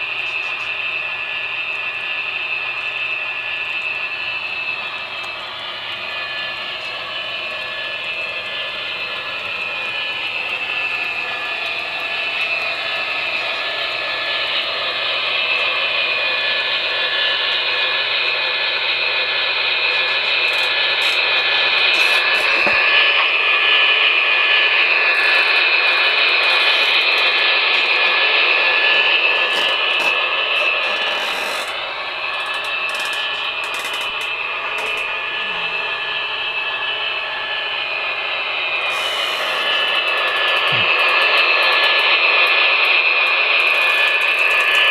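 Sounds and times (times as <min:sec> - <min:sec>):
model locomotive turbine whine: 0:00.0 - 0:44.9.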